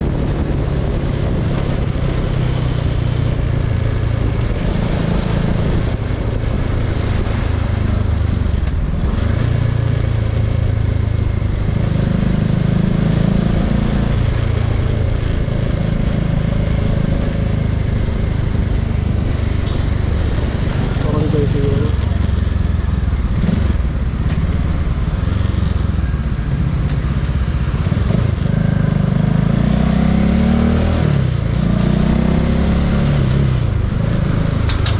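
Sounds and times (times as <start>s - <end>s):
motorcycle engine revving: 0.0s - 34.9s
wind and road noise: 0.0s - 34.9s.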